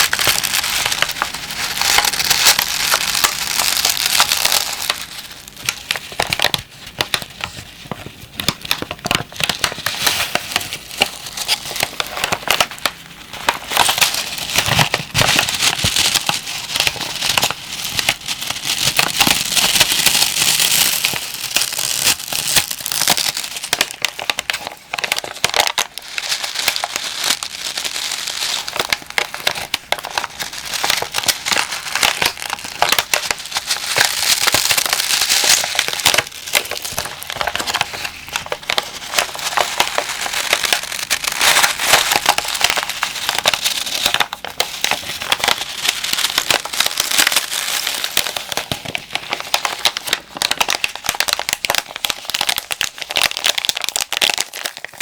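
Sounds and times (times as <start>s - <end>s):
plastic pack crinkling: 0.0s - 55.0s.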